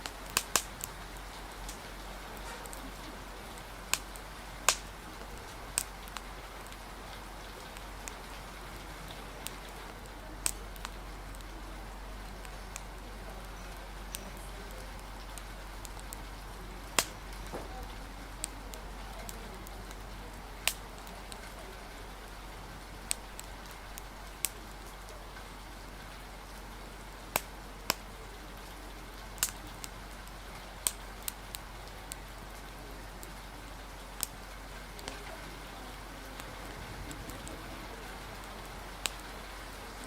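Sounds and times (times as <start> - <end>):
rain hissing: 0.0 - 40.0
wood fire crackling: 0.0 - 40.0.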